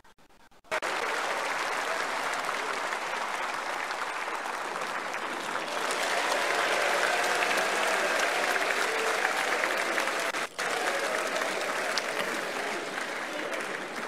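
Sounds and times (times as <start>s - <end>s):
audience applauding: 0.7s - 14.0s.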